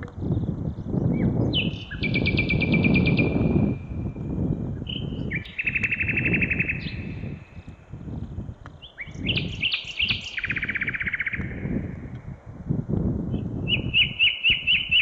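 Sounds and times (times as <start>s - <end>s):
songbird singing trills: 0.0s - 12.2s, 13.3s - 15.0s
wind buffeting microphone: 0.0s - 15.0s.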